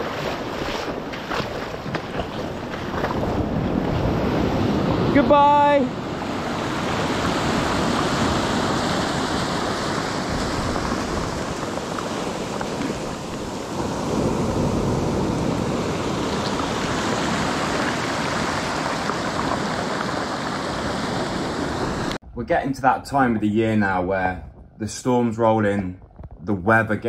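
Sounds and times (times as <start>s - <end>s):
surf washing on shore: 0.0s - 22.2s.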